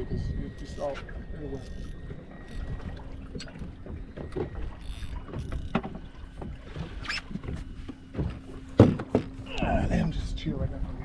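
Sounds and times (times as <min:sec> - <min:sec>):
wind buffeting microphone: 0:00.0 - 0:09.0
water slapping boat hull: 0:00.0 - 0:11.0.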